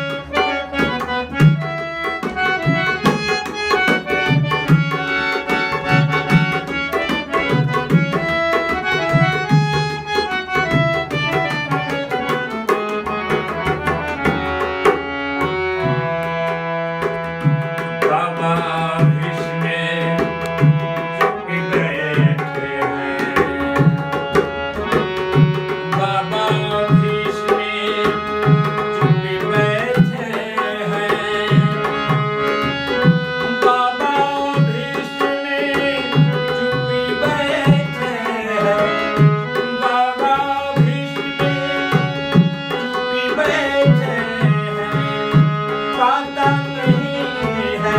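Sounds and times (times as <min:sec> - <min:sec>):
instrumental melody: 0:00.0 - 0:47.9
tabla rhythm: 0:00.0 - 0:47.9.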